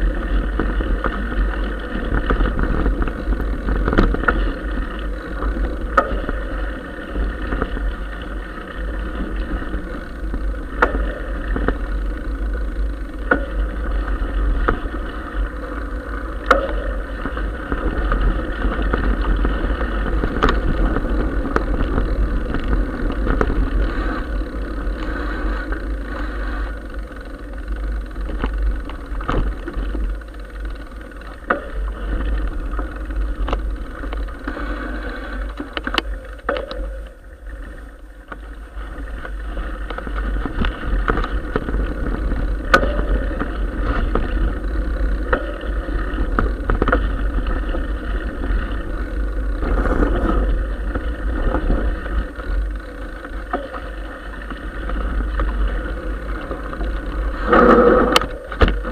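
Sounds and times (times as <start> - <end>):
bike clicks and knocks: 0.0 - 34.6, 35.4 - 58.9
bike tyres on gravel: 0.0 - 53.7.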